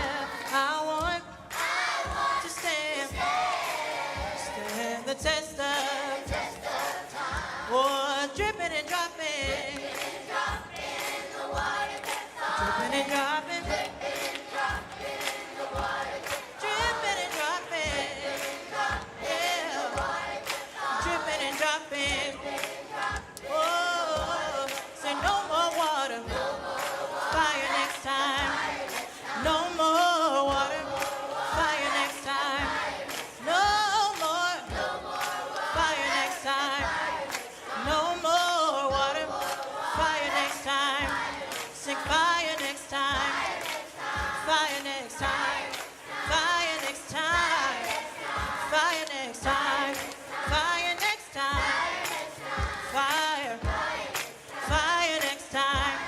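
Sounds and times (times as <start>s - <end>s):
choir singing gospel song: 0.0s - 56.0s
steady drum beat: 0.0s - 56.0s.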